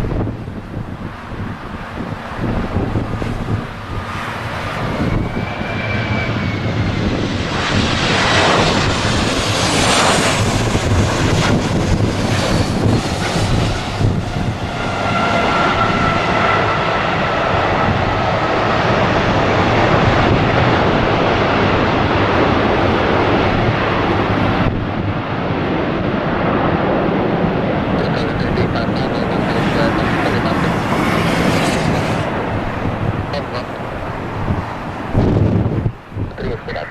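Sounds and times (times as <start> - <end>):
high engine whine: 0.0 - 25.1, 25.8 - 36.9
jet airliner engines landing: 0.0 - 36.9.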